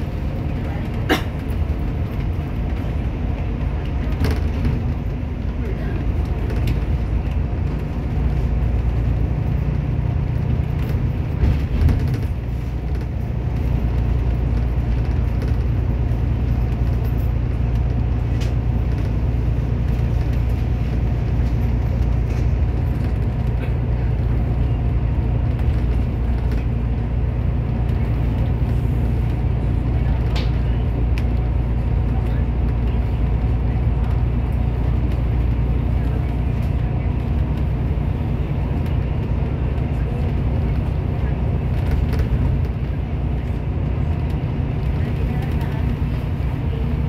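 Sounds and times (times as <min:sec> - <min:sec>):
bus bump: 0:00.0 - 0:47.0
bus engine and tyres rumbling: 0:00.0 - 0:47.0.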